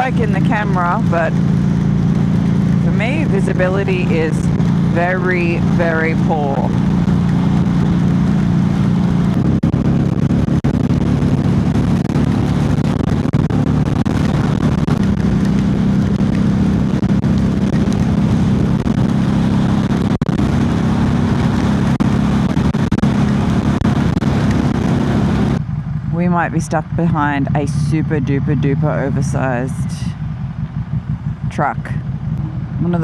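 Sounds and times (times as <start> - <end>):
motorcycle engine running: 0.0 - 33.0
wind: 0.0 - 33.0.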